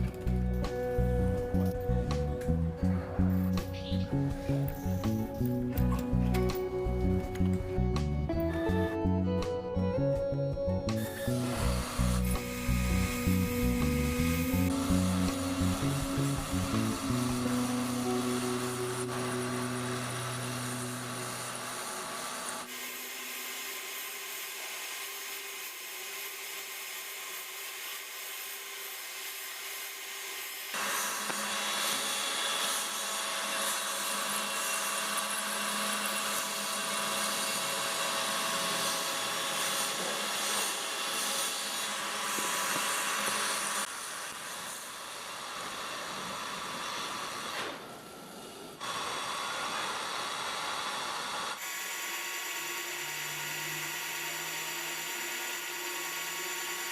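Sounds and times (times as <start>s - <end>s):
power tool grinding metal: 0.0s - 7.7s, 10.9s - 47.9s, 48.8s - 56.9s.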